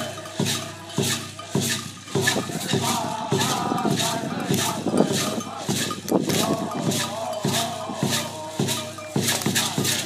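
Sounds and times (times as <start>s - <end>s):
chanted song: 0.0s - 10.0s
large drum beating: 0.0s - 10.0s.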